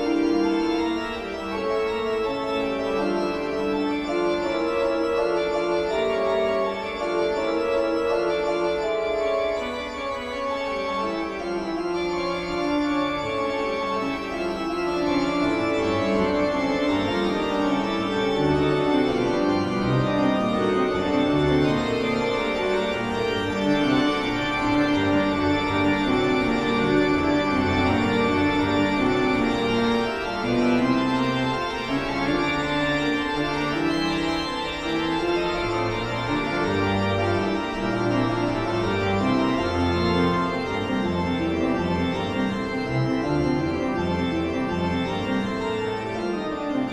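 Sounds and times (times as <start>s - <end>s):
eerie organ music: 0.0s - 46.9s.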